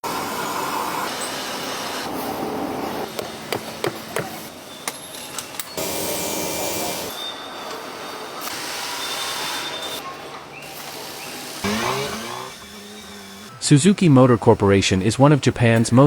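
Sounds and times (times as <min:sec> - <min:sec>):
steady mechanical noise: 0:00.1 - 0:13.6.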